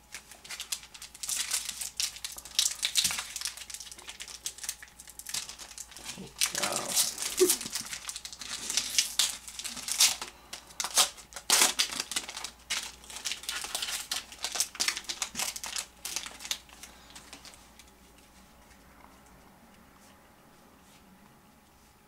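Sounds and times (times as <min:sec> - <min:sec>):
foil wrapper crinkling: 0:00.0 - 0:18.3.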